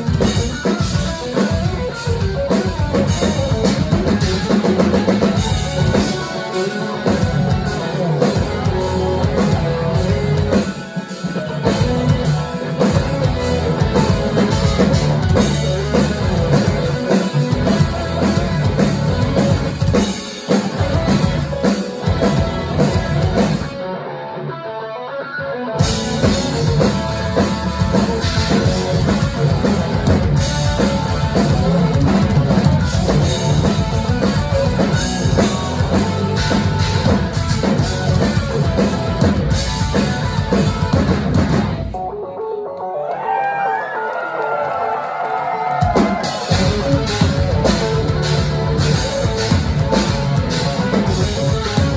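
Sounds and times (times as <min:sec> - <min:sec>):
drum kit: 0:00.0 - 0:23.9, 0:25.8 - 0:42.1, 0:45.0 - 0:51.9
bass guitar: 0:00.0 - 0:42.1, 0:45.7 - 0:51.9
electric guitars: 0:00.0 - 0:51.9.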